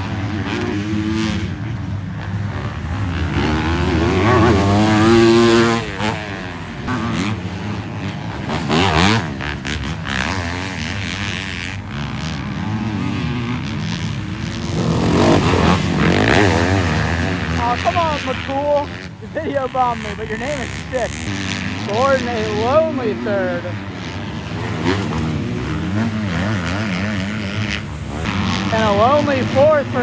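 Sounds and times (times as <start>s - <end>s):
motocross bikes racing past: 0.0s - 30.0s.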